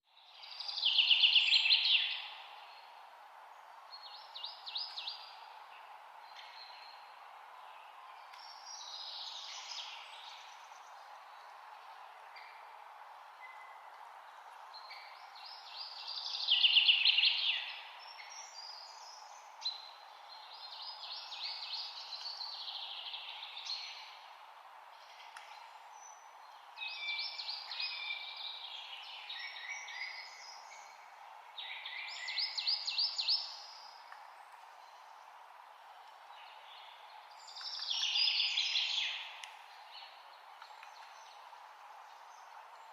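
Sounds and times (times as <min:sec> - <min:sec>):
background hiss: 0:00.0 - 0:42.9.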